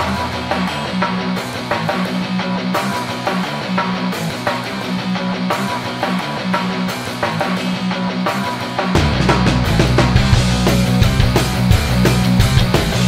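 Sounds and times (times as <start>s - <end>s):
rock music with guitar: 0.0s - 13.0s.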